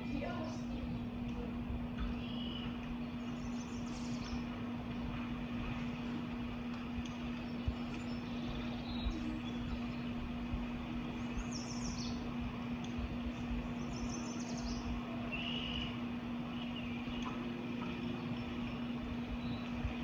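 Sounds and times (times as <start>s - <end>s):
background rumble: 0.0s - 16.6s
low steady hum: 0.0s - 20.0s
songbirds chirping: 0.0s - 20.0s.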